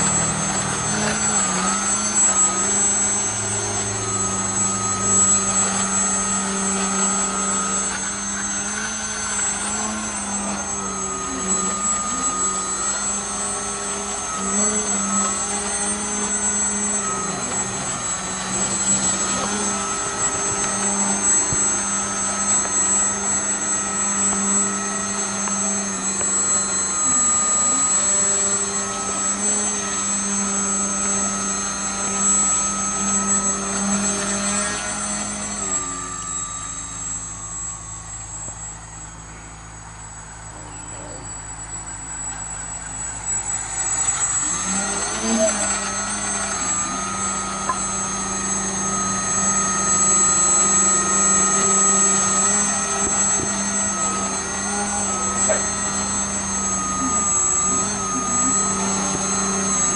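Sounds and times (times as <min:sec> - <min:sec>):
model plane motor droning: 0:00.0 - 0:59.9.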